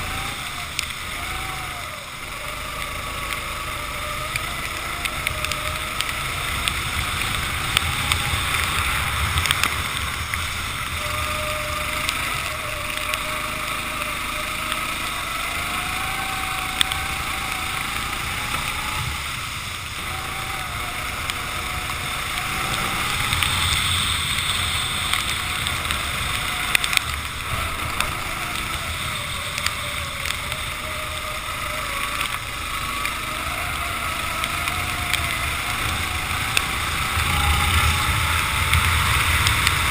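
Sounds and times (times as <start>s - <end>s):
kart engine revving: 0.0s - 39.9s
wet track noise: 0.0s - 39.9s.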